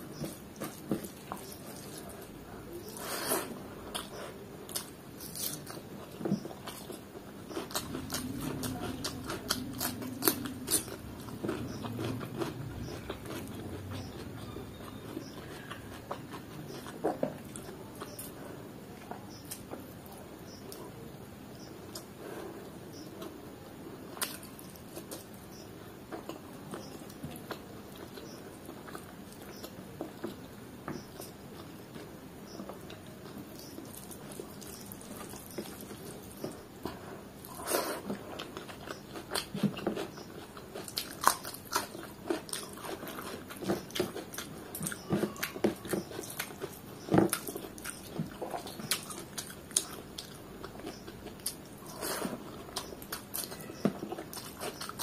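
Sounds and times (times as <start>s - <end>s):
person chewing with smacks: 0.0s - 19.9s, 24.1s - 25.4s, 26.1s - 55.0s.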